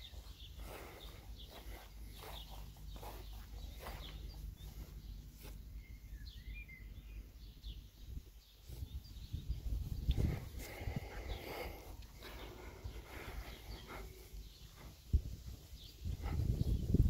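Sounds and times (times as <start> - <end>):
bird chirps: 0.0 - 16.9
outdoor background noise: 0.0 - 17.0.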